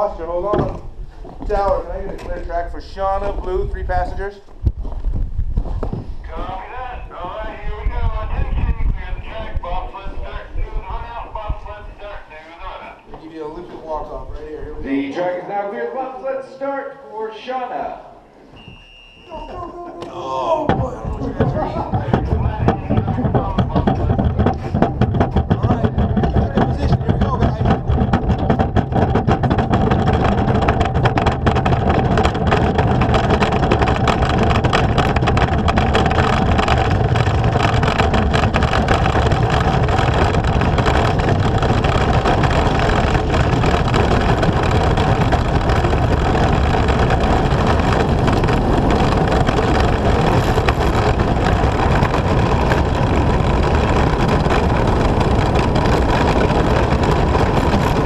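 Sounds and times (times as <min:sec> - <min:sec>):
bobsled runners rumbling on ice: 0:00.0 - 0:14.5, 0:20.3 - 0:58.0.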